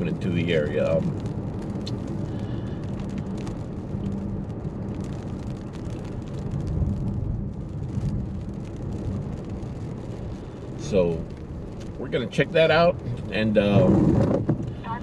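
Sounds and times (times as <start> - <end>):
car cabin engine and road noise: 0.0 - 15.0.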